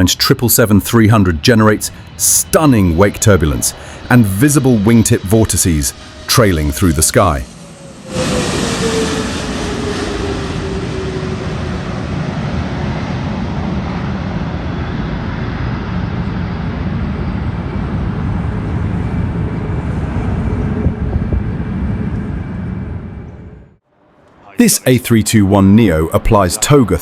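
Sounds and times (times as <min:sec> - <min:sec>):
jet engines passing: 0:00.0 - 0:27.0.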